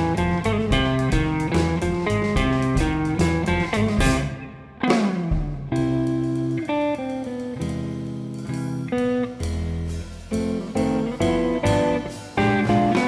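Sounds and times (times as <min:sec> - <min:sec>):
drums playing: 0:00.0 - 0:13.0
electric guitar: 0:00.0 - 0:13.0
upright bass: 0:00.0 - 0:13.0.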